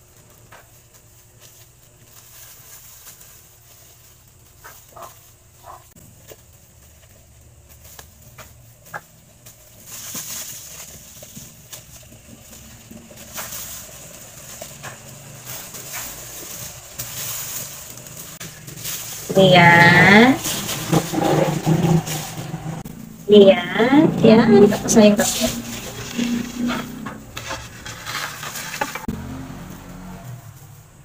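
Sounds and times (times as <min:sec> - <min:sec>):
plastic gloves rustling: 0:00.0 - 0:29.2.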